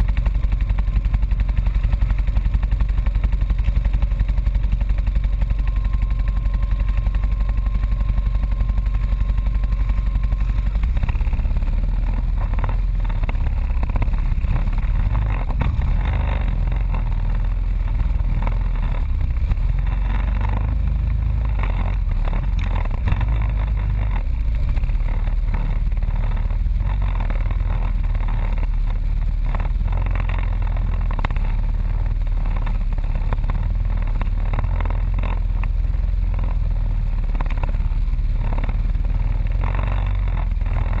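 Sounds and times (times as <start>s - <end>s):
atv engine running: 0.0s - 41.0s
faint steady whine: 0.0s - 41.0s.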